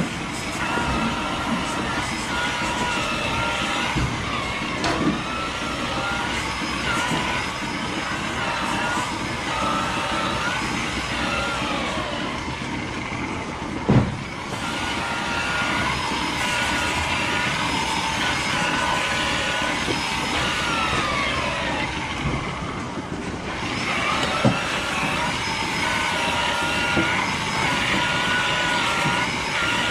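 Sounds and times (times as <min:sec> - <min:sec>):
machine whining: 0:00.0 - 0:29.9.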